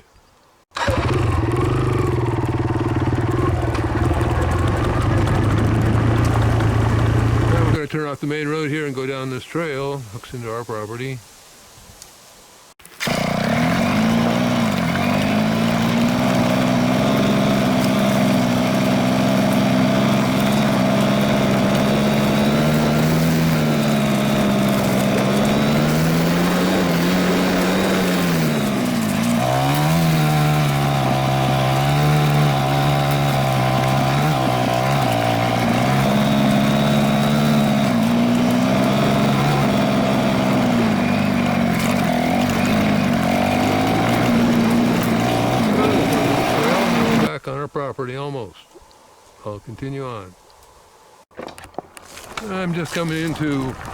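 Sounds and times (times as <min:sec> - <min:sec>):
dirt bike engine: 0:00.7 - 0:08.0, 0:12.8 - 0:47.4, 0:51.3 - 0:53.9.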